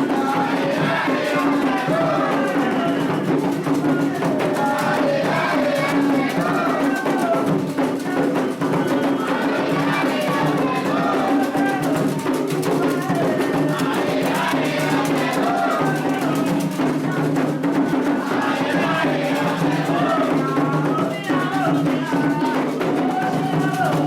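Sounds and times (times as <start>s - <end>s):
hand drums rhythm: 0.0s - 24.0s
voices singing a chant: 0.0s - 24.0s.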